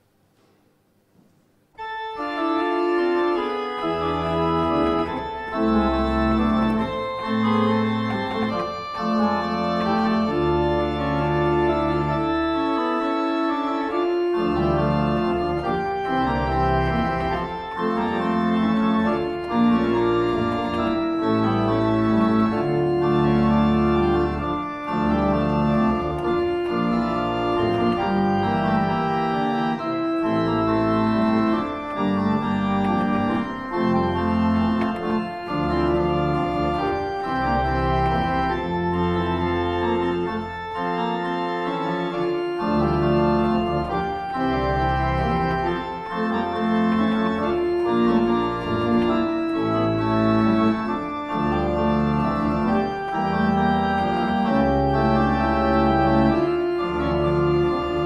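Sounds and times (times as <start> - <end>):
organ chords: 0.0 - 58.0.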